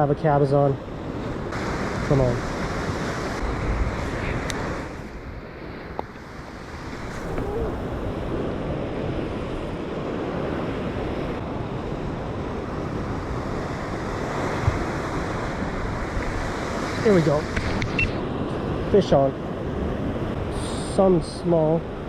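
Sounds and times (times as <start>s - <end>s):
ocean surf washing ashore: 0.7s - 22.0s
wind buffeting microphone: 1.0s - 18.9s.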